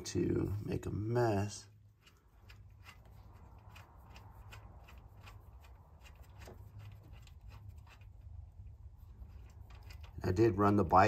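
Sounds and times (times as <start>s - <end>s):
low steady hum: 0.0s - 11.0s
fingers clicking and rubbing on bolt: 1.6s - 10.5s.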